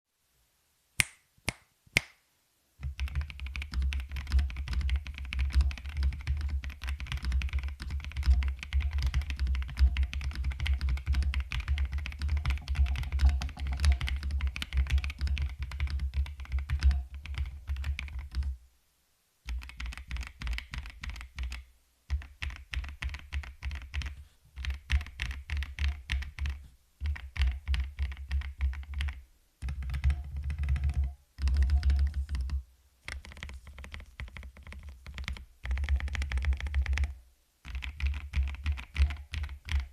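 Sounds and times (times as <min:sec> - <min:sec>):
mechanical keyboard typing: 0:02.8 - 0:18.5, 0:19.5 - 0:39.9.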